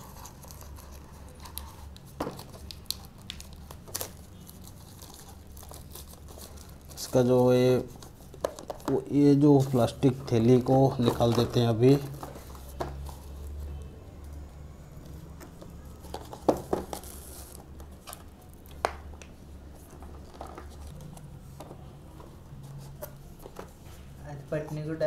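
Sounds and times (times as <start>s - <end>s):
plastic wrapping crinkling and tearing: 0.0s - 14.4s, 15.6s - 21.5s.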